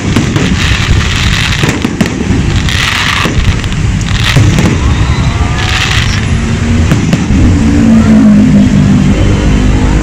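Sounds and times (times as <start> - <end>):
fireworks bursting: 0.0 - 8.8.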